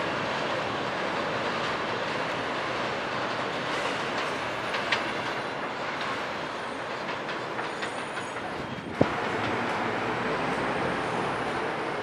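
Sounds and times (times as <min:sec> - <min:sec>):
subway train wheels on rail: 0:00.0 - 0:12.0.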